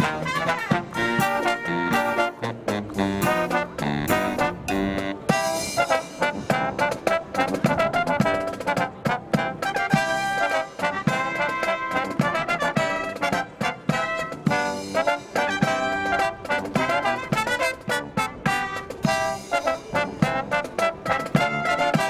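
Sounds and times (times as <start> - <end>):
brass marching band playing: 0.0 - 22.0
steady drum beat: 0.0 - 22.0.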